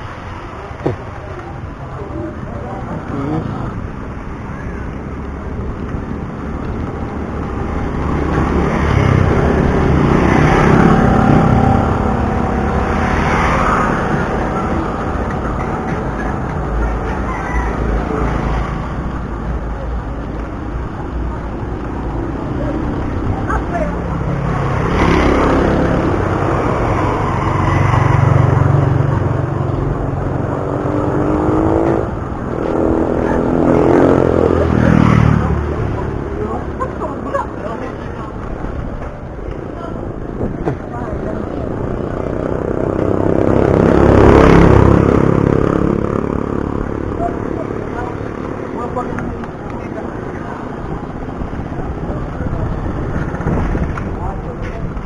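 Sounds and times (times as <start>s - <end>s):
road traffic engines: 0.0s - 55.0s
vehicle passing by: 1.2s - 40.2s, 40.8s - 55.0s.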